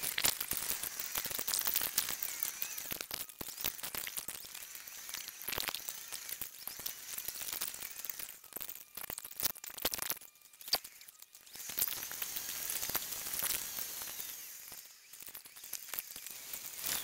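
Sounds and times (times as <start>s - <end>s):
quick clicks: 0.0s - 17.0s.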